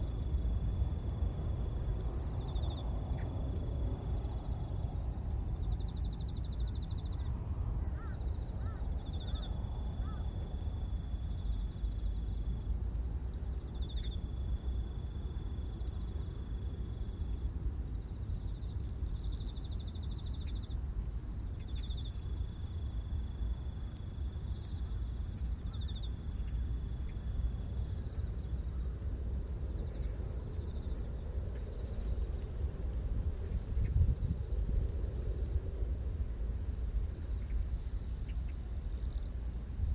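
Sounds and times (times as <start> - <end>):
high insect trill: 0.0 - 39.9
low wind rumble: 0.0 - 39.9
lower insect trill: 0.0 - 39.9
rhythmic cricket chirps: 0.0 - 39.9.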